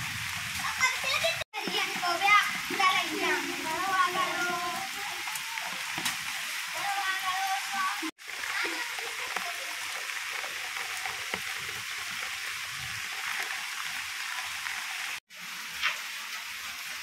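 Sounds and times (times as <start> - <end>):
heavy rain on plants and paving: 0.0 - 17.0.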